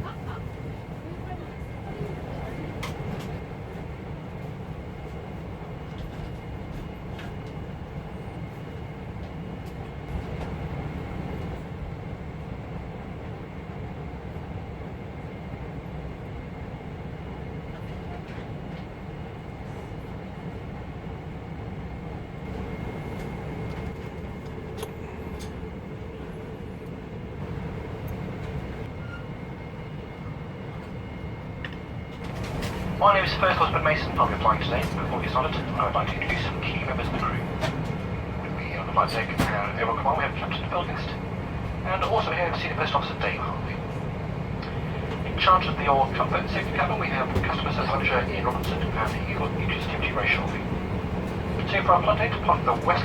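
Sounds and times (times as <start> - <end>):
aircraft cabin rumble and hum: 0.0 - 53.0.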